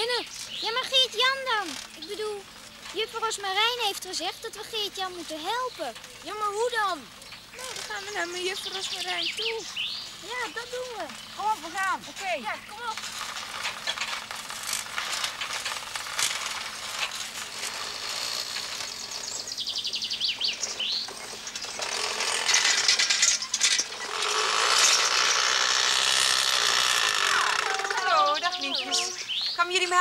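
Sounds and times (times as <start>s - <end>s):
bicycle freewheel hubs ticking: 0.0s - 29.2s
bicycle frames rattling: 0.0s - 29.4s.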